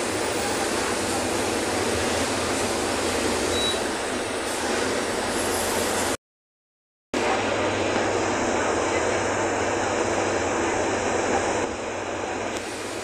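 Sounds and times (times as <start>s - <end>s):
bus engine and road noise: 0.0s - 6.2s, 7.2s - 13.0s.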